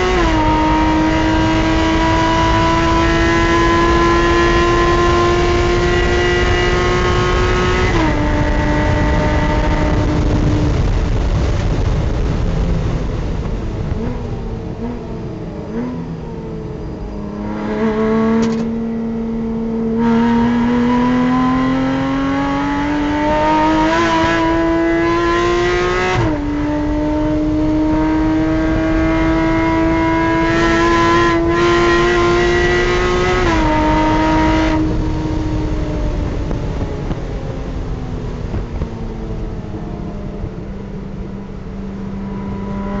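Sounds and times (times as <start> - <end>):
race car engine at full throttle: 0.0 - 43.0.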